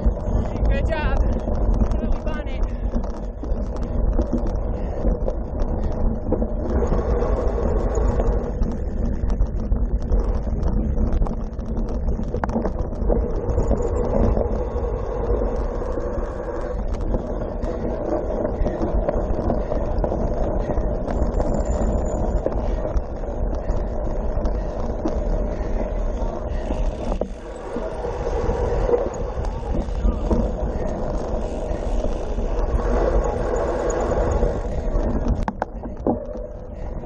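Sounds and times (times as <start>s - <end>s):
bike rattling: 0.0s - 37.0s
bike tyres rumbling: 0.0s - 37.0s
wind buffeting microphone: 0.0s - 37.0s.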